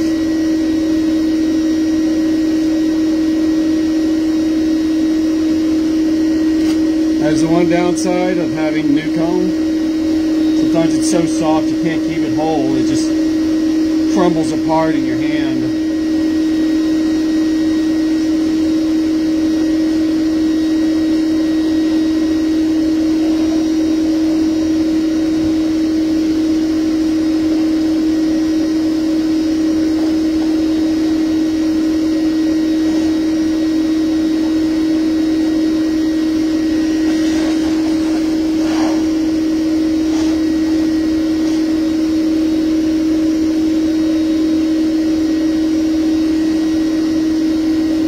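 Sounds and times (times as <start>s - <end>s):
bee vacuum humming: 0.0s - 48.0s.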